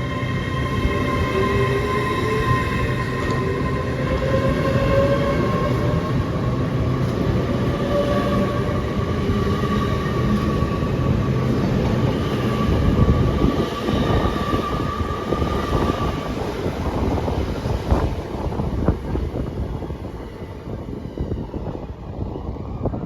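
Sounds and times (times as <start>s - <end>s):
train high whine: 0.0s - 23.0s
train low rumble: 0.0s - 23.0s.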